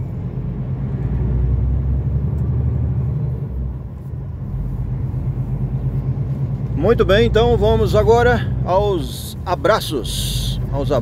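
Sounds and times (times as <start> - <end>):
road rumble: 0.0 - 11.0
truck diesel engine droning: 0.0 - 11.0.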